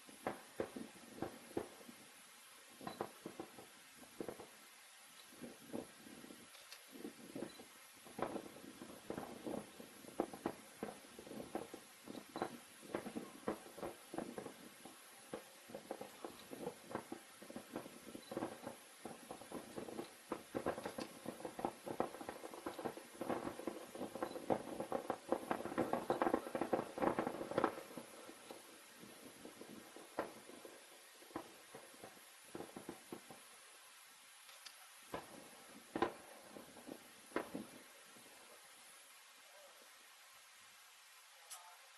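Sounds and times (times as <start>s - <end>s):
fireworks popping and crackling: 0.0s - 39.6s.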